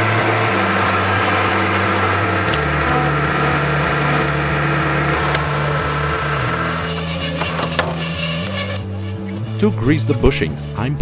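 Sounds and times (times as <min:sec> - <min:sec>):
background music with low notes: 0:00.0 - 0:11.0
milling machine cutting steel: 0:00.0 - 0:11.0.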